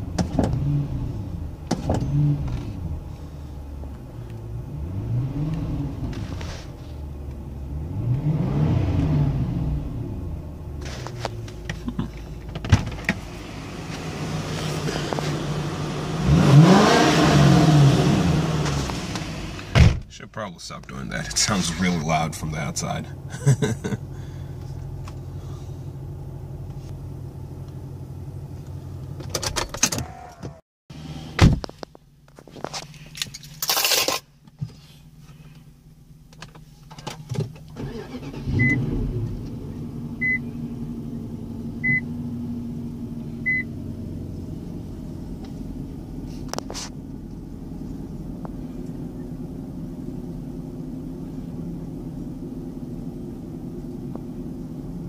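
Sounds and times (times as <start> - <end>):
car engine idling: 0.0 - 4.7, 9.7 - 29.4, 34.3 - 55.0
car engine starting: 0.0 - 55.0.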